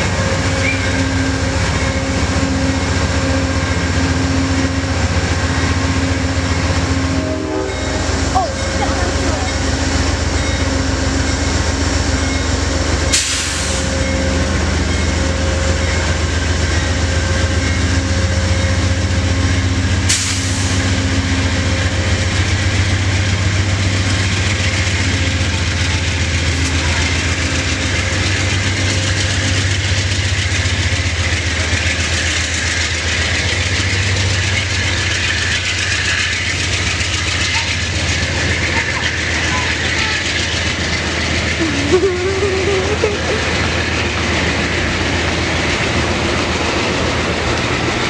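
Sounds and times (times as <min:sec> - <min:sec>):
diesel locomotive engine droning: 0:00.0 - 0:48.0
train wheels rattling on rails: 0:00.0 - 0:48.0.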